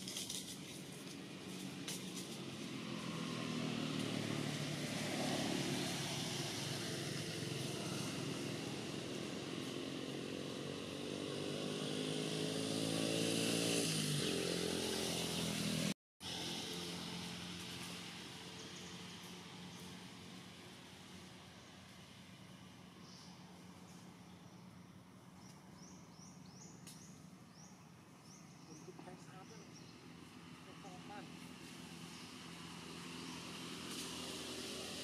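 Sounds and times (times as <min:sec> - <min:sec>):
small engine running: 0:00.0 - 0:24.8, 0:25.8 - 0:35.0.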